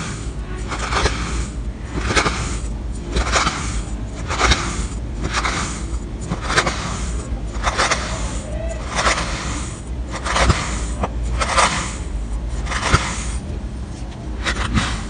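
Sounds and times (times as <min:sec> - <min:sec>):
knife slicing through sand: 0:00.0 - 0:13.4, 0:14.4 - 0:15.0.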